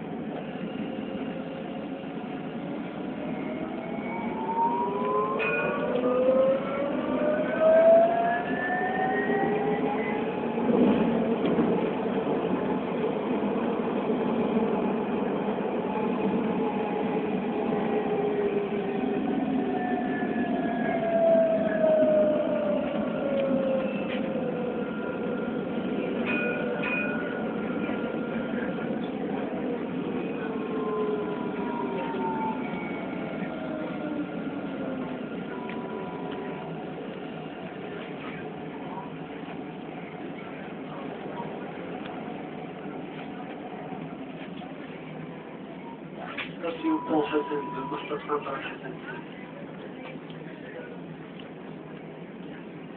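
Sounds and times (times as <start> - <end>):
rumble of running tram car: 0.0 - 52.9
tram motors whining: 0.0 - 52.9.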